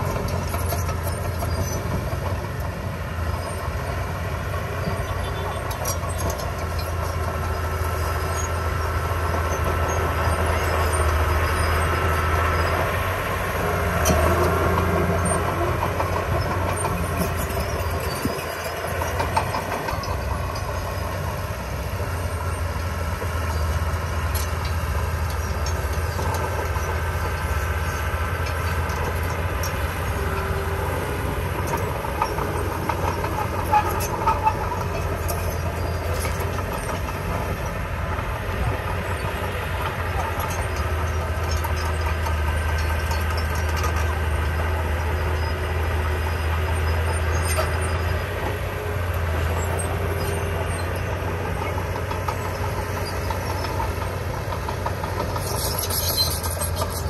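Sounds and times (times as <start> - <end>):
bulldozer diesel engine running: 0.0 - 57.0
steel tracks clattering: 0.0 - 57.0.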